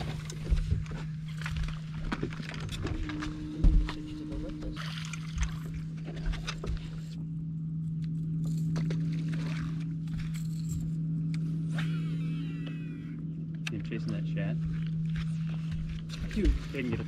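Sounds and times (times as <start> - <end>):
trolling motor humming: 0.0 - 17.0.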